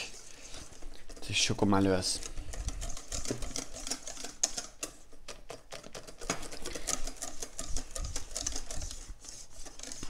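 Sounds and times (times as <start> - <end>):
whisk beating batter in metal bowl: 0.0 - 10.0.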